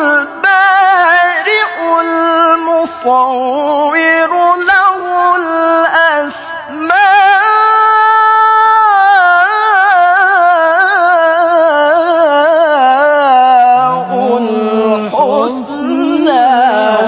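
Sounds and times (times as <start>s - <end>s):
person reciting melodically: 0.0s - 17.0s.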